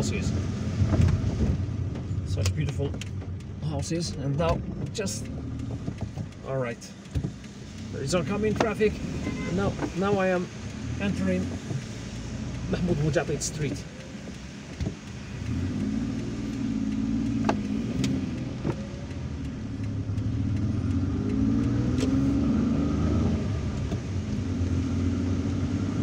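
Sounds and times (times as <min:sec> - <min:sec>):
car engine in traffic: 0:00.0 - 0:26.0
sharp ticks: 0:01.9 - 0:24.8.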